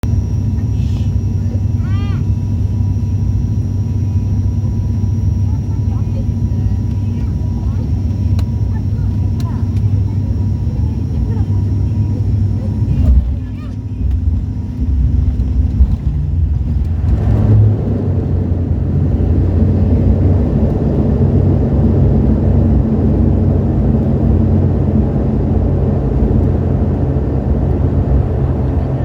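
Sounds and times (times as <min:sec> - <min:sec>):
airliner low rumble: 0:00.0 - 0:29.0.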